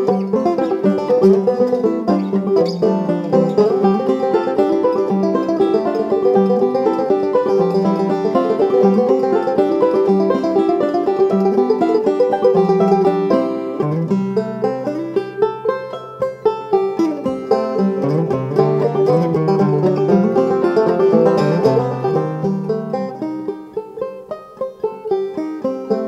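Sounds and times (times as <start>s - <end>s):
plucked string instrument music: 0.0s - 26.0s.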